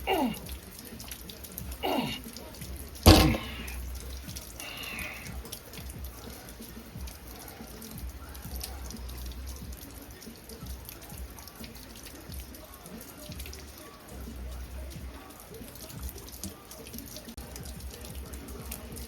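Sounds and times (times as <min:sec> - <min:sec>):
rain dripping: 0:00.0 - 0:19.0.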